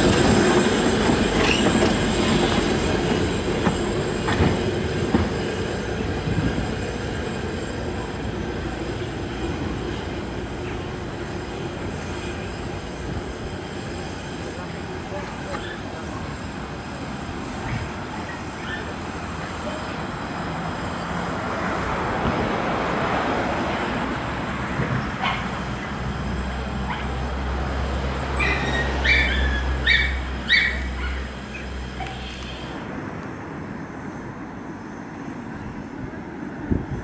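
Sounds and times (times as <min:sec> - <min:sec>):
steam locomotive hissing: 0:00.0 - 0:37.0.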